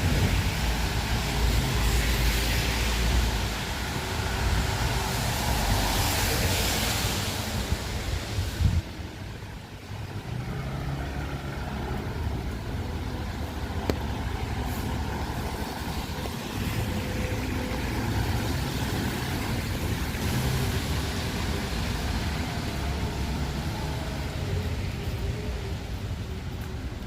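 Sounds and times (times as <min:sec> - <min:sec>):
traffic on wet street: 0:00.0 - 0:27.0.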